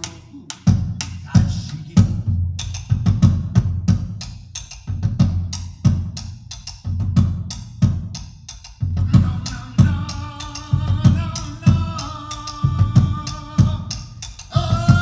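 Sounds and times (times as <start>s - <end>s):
drum solo: 0.0s - 15.0s.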